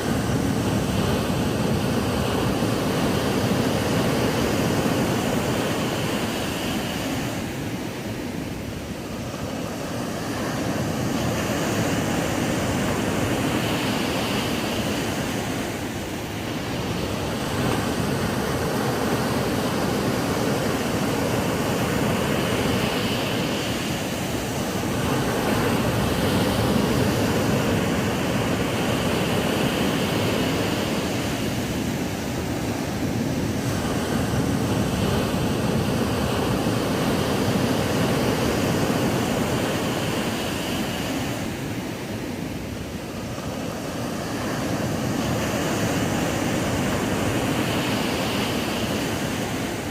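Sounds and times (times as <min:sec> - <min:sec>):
ocean waves breaking on beach: 0:00.0 - 0:49.9.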